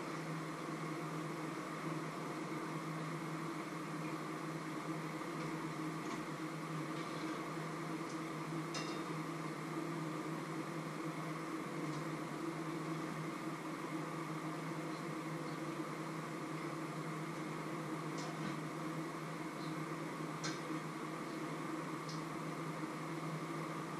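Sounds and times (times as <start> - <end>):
mechanical hum: 0.0 - 23.9.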